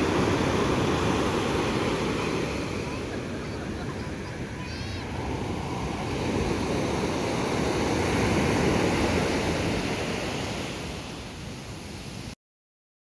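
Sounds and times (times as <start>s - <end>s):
ocean waves and surf: 0.0s - 12.4s.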